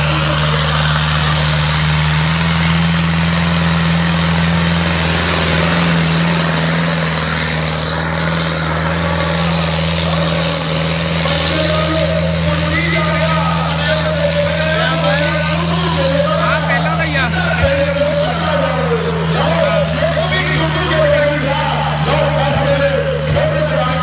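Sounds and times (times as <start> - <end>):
diesel tractor engine droning: 0.0 - 24.0.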